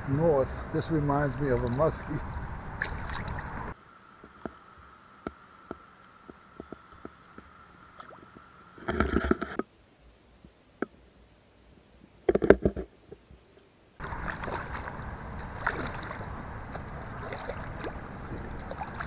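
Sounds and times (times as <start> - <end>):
wind and water hiss: 0.0 - 19.0.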